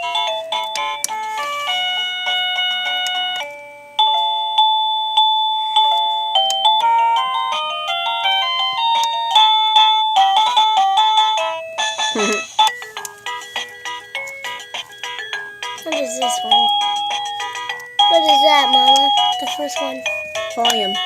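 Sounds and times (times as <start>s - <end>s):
doorbell electronic chime melodies: 0.0s - 21.0s.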